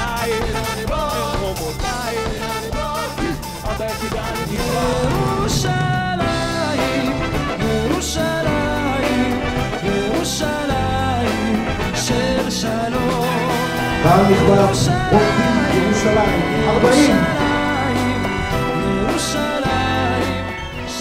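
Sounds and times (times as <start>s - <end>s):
person singing with band: 0.0s - 21.0s.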